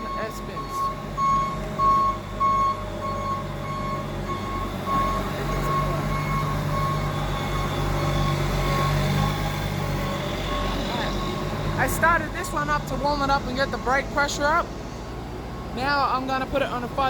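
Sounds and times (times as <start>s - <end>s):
rhythmic warning beeper: 0.0s - 14.6s.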